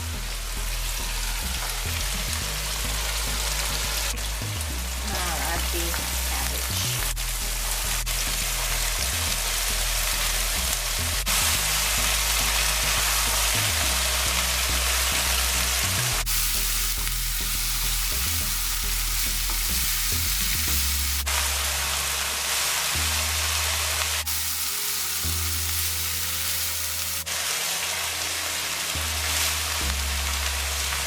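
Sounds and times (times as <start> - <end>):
food sizzling in a wok: 0.0 - 31.0
low background music: 0.0 - 31.0.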